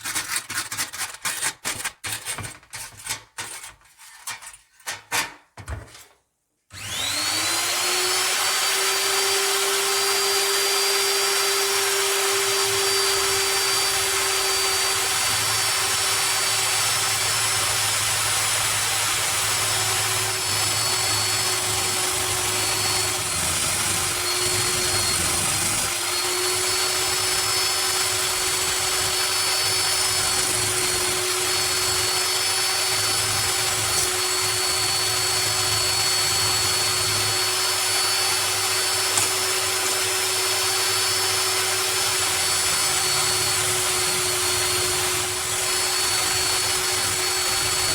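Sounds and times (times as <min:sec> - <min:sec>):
power tool motor whining: 0:06.8 - 0:47.9.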